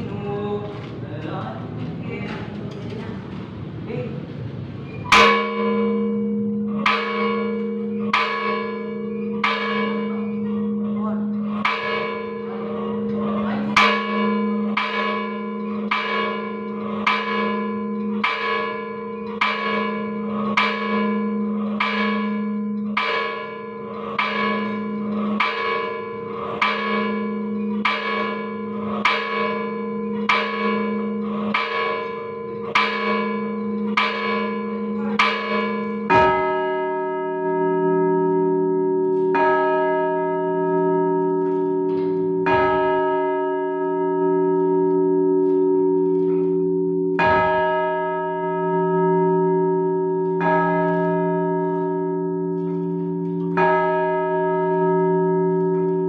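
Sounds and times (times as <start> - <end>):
lower-pitched bell ringing: 4.8 - 56.0
tower bell tolling: 4.8 - 56.0.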